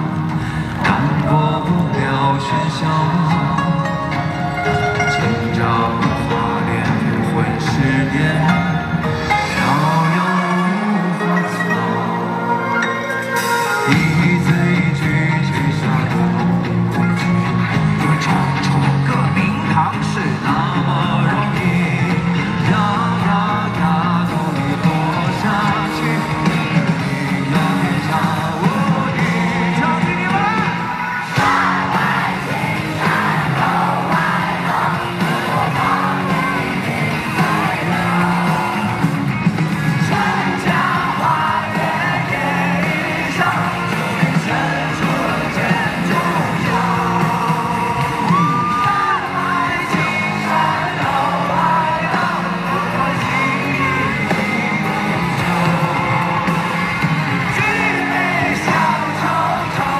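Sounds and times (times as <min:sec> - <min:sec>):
full band playing: 0:00.0 - 0:59.9
man singing live: 0:00.0 - 0:59.9.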